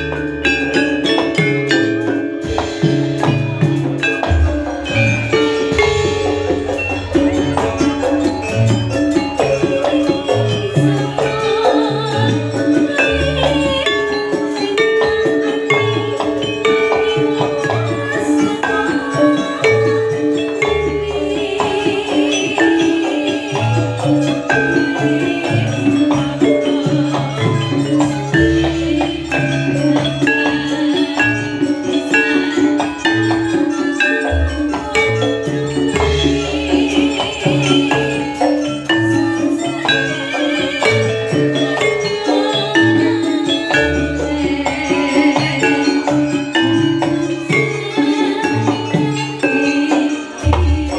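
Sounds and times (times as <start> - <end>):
metallophones struck with mallets: 0.0 - 50.9.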